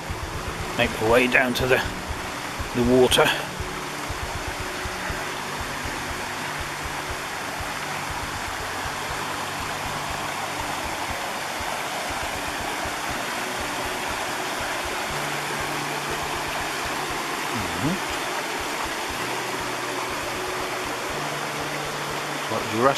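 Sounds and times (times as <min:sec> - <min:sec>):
river rushing over rocks: 0:00.0 - 0:22.9.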